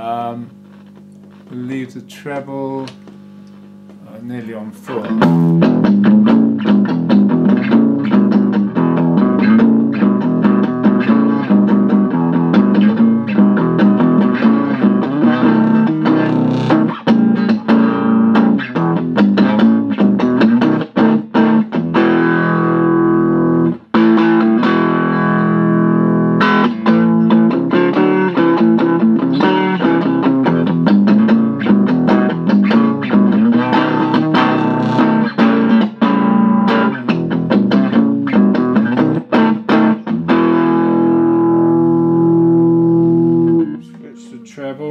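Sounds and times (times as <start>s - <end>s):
electric guitar notes and chords: 4.9s - 44.2s.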